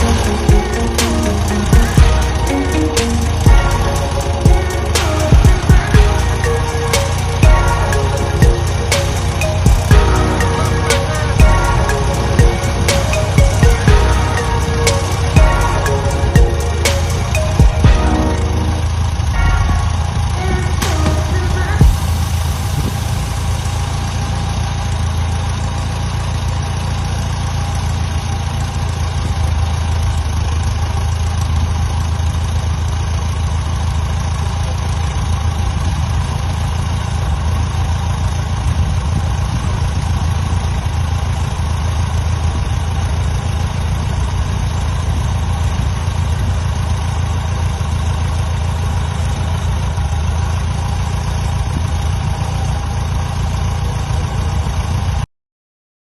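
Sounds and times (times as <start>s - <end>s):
aircraft engine idling: 0.0s - 55.2s.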